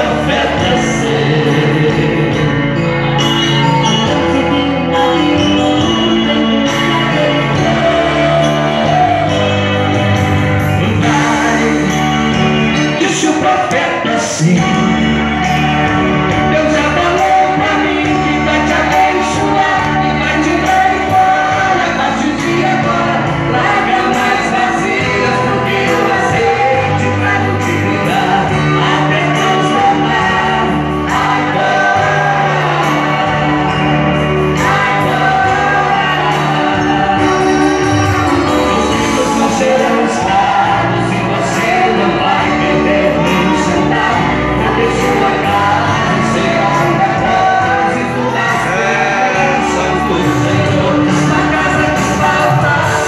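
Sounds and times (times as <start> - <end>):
man singing into microphone: 0.0 - 3.2, 3.8 - 33.2, 34.6 - 53.0
electronic keyboard chords and bass: 0.0 - 53.0.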